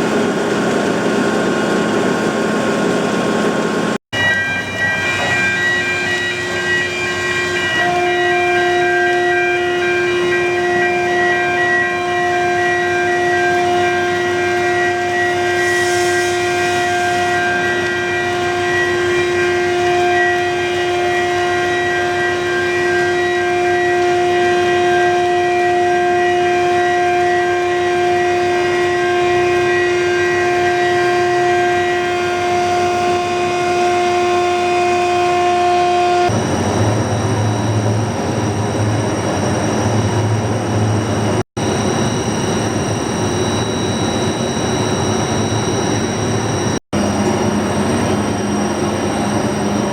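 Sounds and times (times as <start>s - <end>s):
furnace plant rushing drone: 0.0s - 49.9s.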